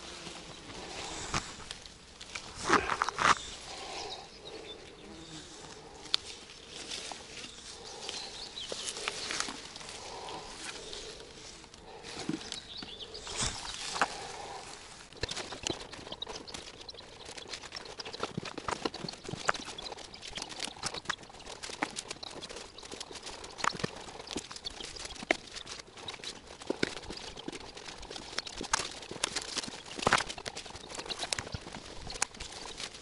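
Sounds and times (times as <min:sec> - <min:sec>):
grass and leaves rustling: 0:00.0 - 0:33.0.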